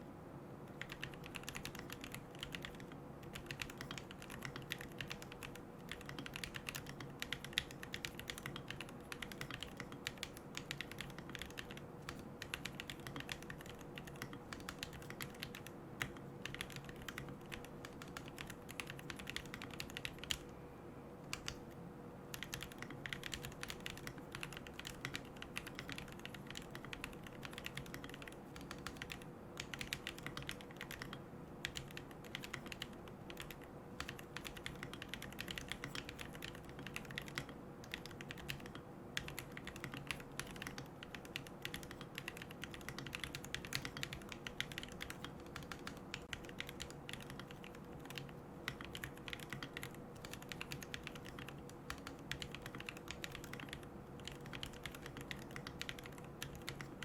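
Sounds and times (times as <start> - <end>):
mechanical keyboard typing: 0.7 - 20.4, 21.3 - 21.7, 22.3 - 57.0.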